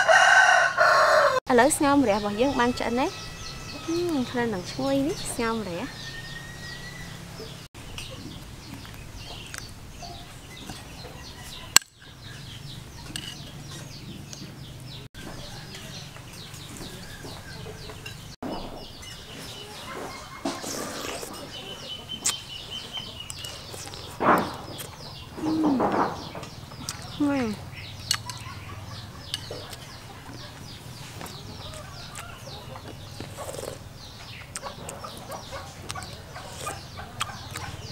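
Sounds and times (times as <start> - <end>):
small birds chirping: 1.5 - 37.9
chickens clucking: 2.1 - 37.9.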